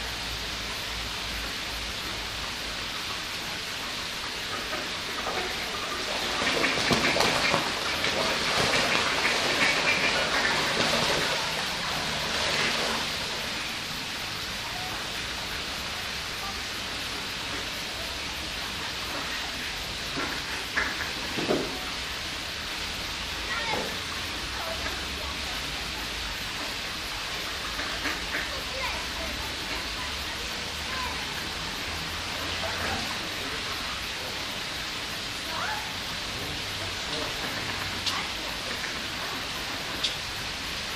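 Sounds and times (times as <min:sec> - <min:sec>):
ducks splashing in water: 0:00.0 - 0:40.9
rushing water: 0:00.0 - 0:40.9.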